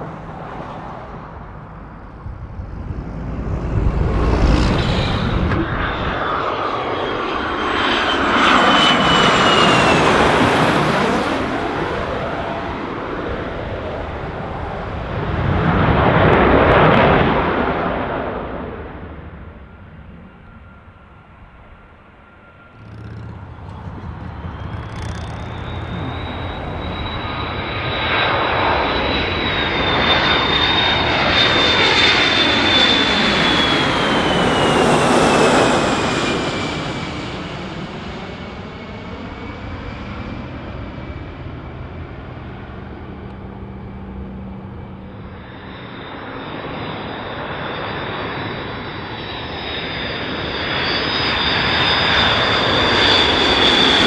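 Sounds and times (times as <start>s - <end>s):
jet aircraft passing overhead: 0.0s - 54.0s.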